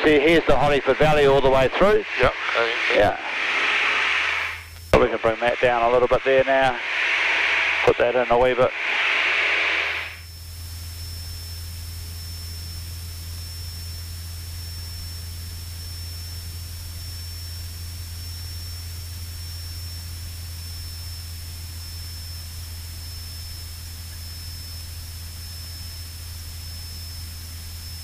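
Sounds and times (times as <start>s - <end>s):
small plane engine drone: 0.0s - 28.0s
thin high whine: 0.0s - 28.0s.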